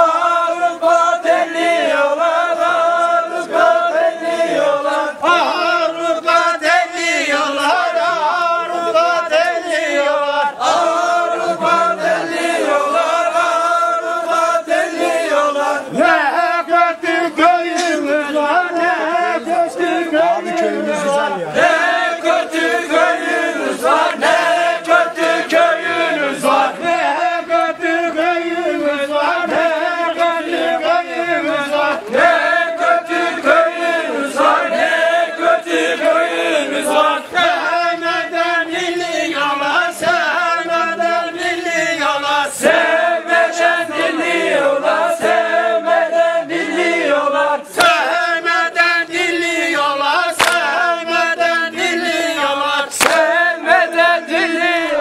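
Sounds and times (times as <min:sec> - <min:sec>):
group singing in unison: 0:00.0 - 0:55.0.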